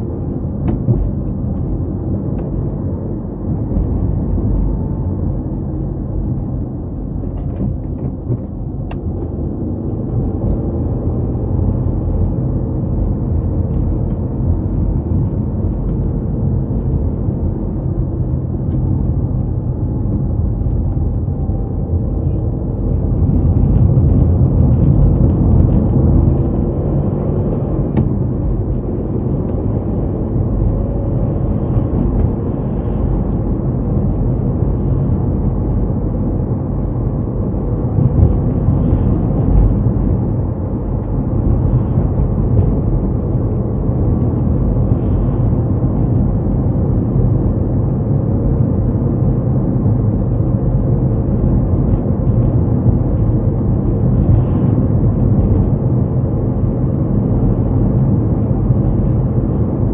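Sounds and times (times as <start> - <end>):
car engine drone: 0.0 - 59.9
tyre and road rumble: 0.0 - 59.9.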